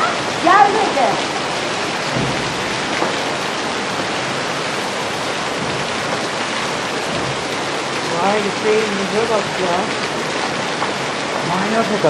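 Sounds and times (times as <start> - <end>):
hail and heavy rain pelting: 0.0 - 12.0.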